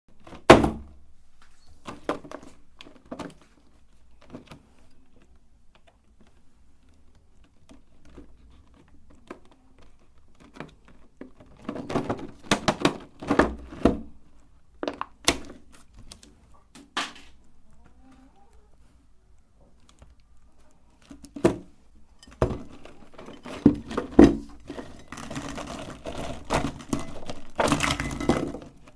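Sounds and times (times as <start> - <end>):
small objects knocking and clattering: 1.8 - 18.0, 19.6 - 28.9.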